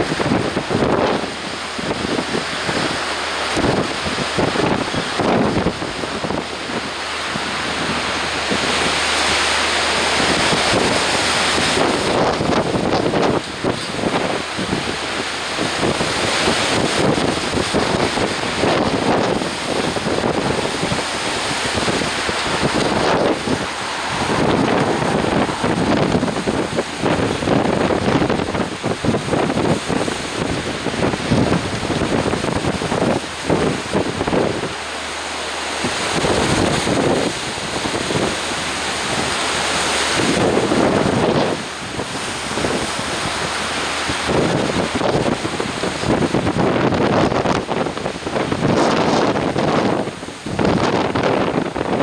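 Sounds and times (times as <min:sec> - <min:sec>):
strong wind on microphone: 0:00.0 - 0:52.0.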